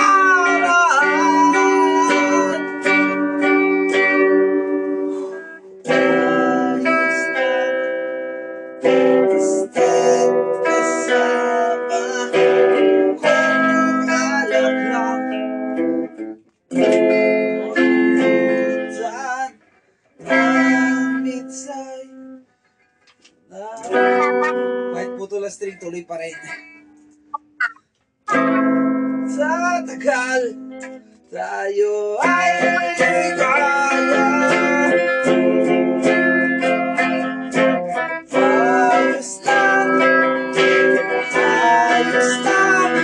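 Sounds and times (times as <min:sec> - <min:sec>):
guitar strummed and picked: 0:00.0 - 0:43.0.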